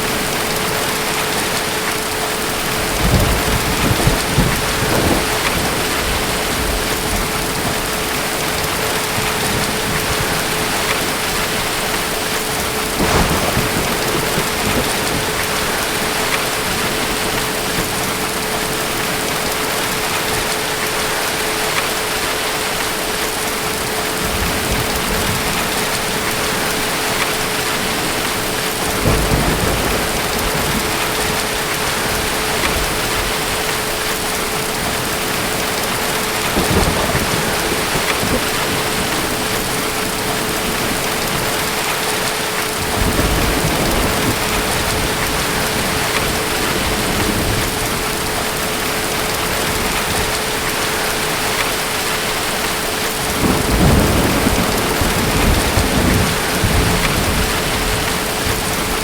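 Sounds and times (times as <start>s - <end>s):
heavy rain: 0.0s - 59.0s
distant thunder rolling: 2.6s - 19.6s, 24.2s - 50.8s, 53.0s - 59.0s.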